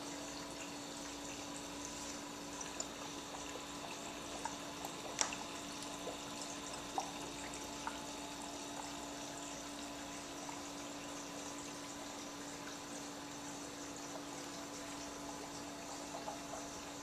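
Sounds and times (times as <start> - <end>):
pump hum: 0.0 - 17.0
sharp drip-like ticks: 0.0 - 17.0
water trickling and dripping: 0.0 - 17.0.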